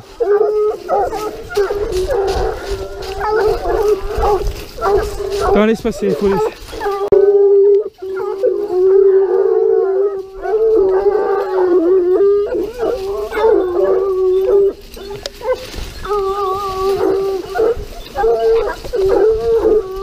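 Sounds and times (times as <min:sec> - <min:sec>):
hounds baying: 0:00.0 - 0:20.0.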